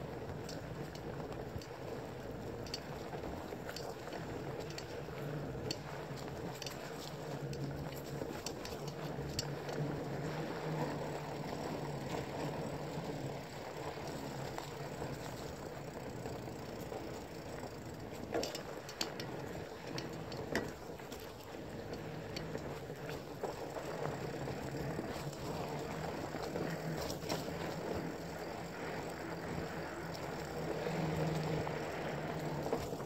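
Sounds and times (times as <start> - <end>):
bike rattling: 0.0 - 33.0
bike tyres rolling over dirt: 0.0 - 33.0.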